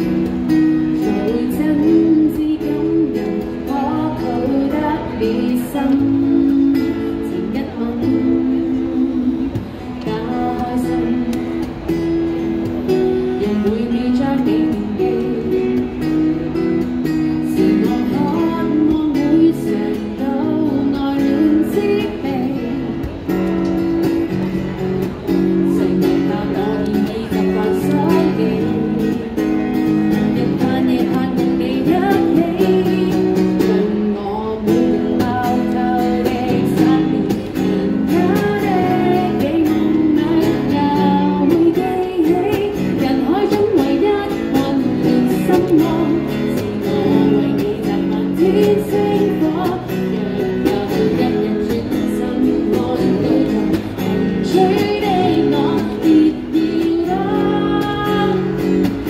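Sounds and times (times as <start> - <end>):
woman singing: 0.0 - 12.0, 12.9 - 23.1, 25.3 - 59.0
acoustic guitar strumming: 0.0 - 59.0.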